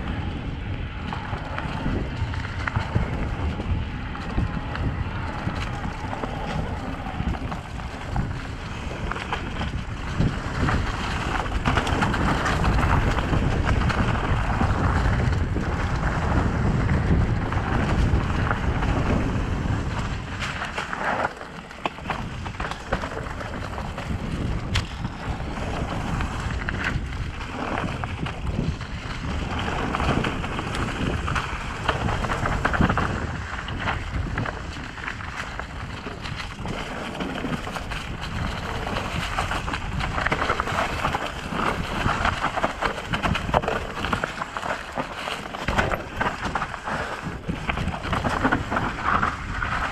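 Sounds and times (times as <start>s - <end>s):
bike rattling over bumps: 0.0s - 49.9s
tyres rolling over dirt and leaves: 0.0s - 49.9s
wind buffeting microphone: 0.0s - 49.9s.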